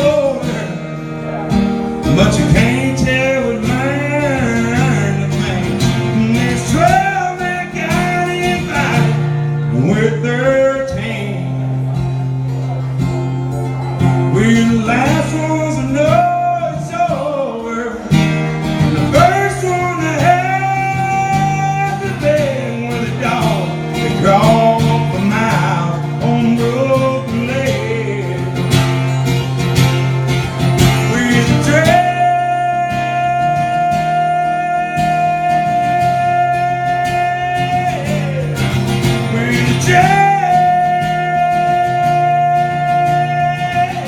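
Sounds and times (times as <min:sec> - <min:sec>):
country band instrumental: 0:00.0 - 0:44.0.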